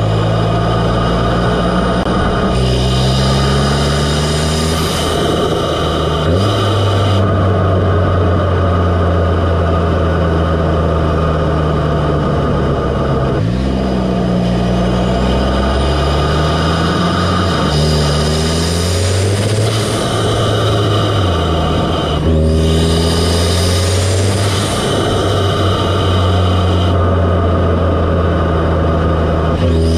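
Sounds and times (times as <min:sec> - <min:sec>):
car engine revving with intake sound: 0:00.0 - 0:29.9.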